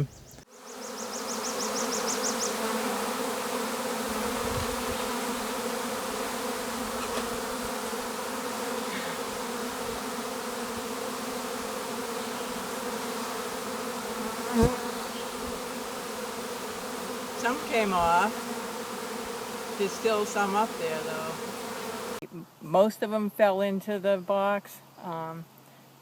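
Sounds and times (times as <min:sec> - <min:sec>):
honeybees buzzing: 0:00.0 - 0:22.2.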